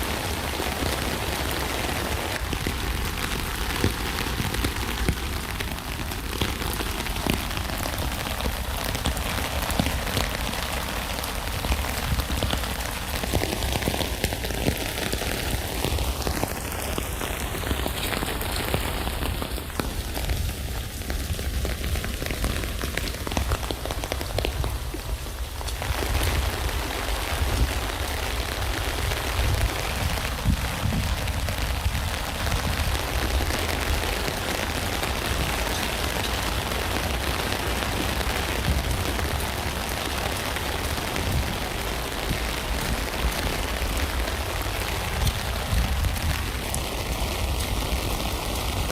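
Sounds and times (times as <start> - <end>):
rain falling on a tent: 0.0 - 48.9.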